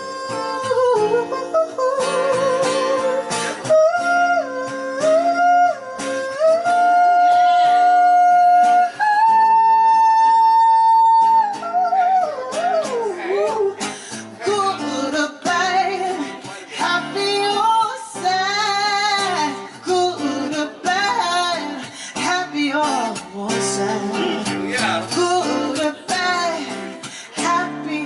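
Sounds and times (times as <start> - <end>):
guitar chords: 0.0 - 28.0
person singing: 0.0 - 28.0.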